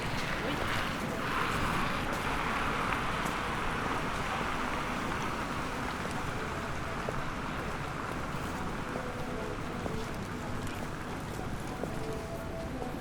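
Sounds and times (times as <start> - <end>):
murmur of passers-by: 0.0 - 13.0.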